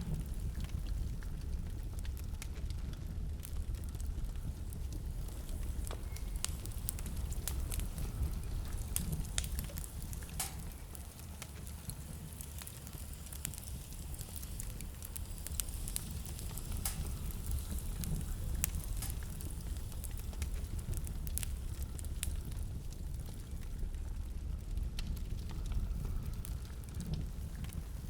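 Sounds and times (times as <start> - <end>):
low fire rumble: 0.0 - 28.0
wood fire crackling: 0.0 - 28.0.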